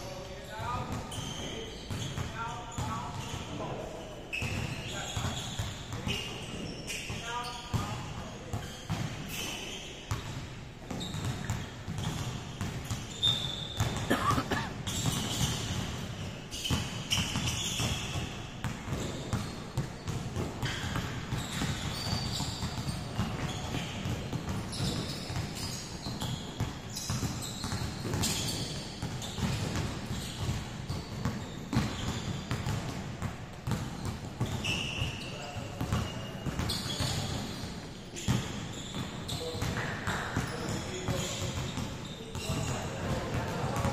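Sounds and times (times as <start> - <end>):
sneaker squeaks: 0.0 - 43.9
basketballs bouncing on wooden floor: 0.6 - 3.8, 4.4 - 43.9.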